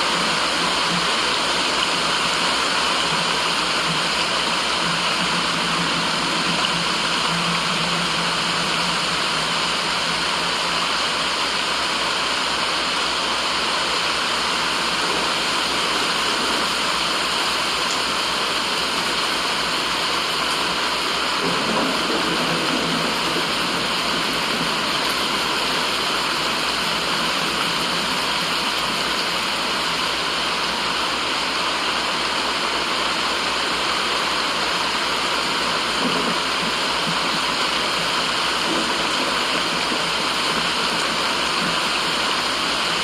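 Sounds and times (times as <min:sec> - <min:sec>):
rushing white noise: 0:00.0 - 0:43.0.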